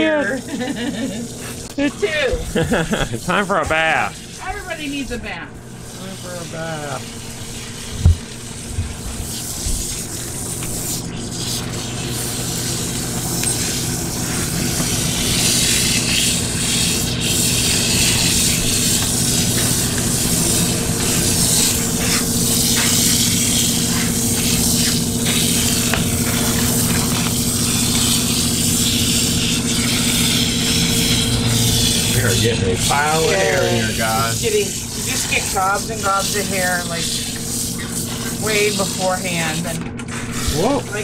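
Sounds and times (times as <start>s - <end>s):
pump hum: 0.0s - 41.0s
water spraying and splashing: 0.2s - 41.0s.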